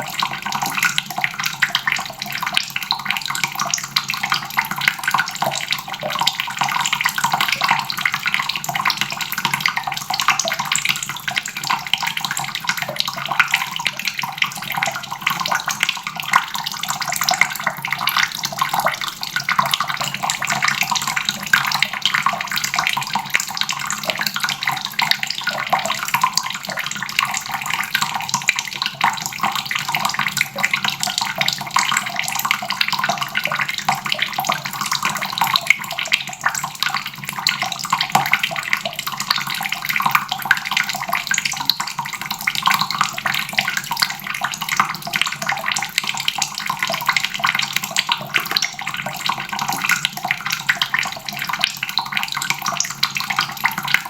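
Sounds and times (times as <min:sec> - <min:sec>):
faucet water splashing into basin: 0:00.0 - 0:54.0.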